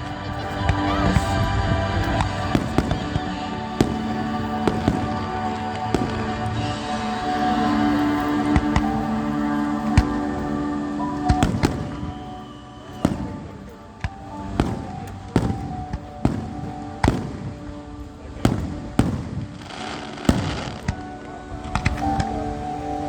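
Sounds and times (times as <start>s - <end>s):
fireworks bangs: 0.0s - 23.0s
fireworks crackling: 0.0s - 23.0s
music playing: 0.0s - 23.0s.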